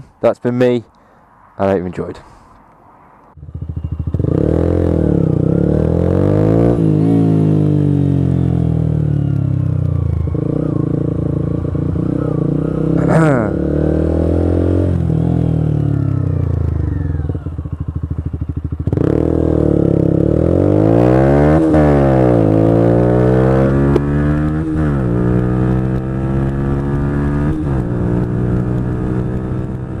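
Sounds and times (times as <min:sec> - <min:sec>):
motorcycle engine revving and upshifting: 0:03.4 - 0:30.0.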